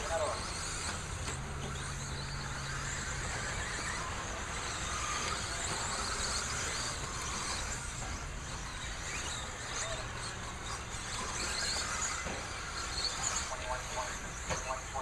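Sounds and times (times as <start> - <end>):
rc trucks high-pitched motors: 0.0 - 15.0.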